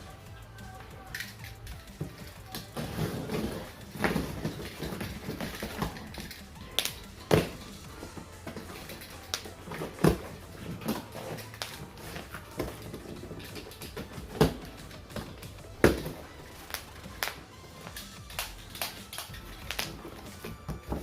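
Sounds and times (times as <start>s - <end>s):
chair parts and packaging clatter: 0.0s - 21.0s.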